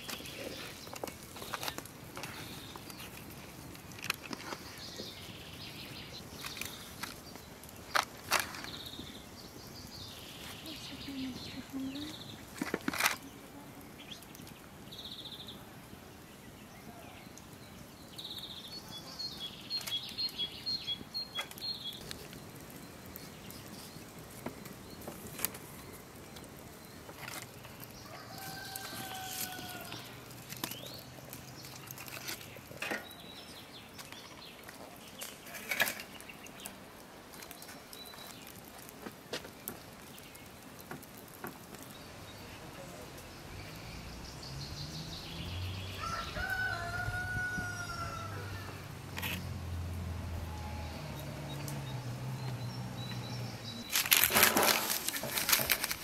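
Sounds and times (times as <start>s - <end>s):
small birds chirping: 0.0s - 49.6s, 50.8s - 56.0s.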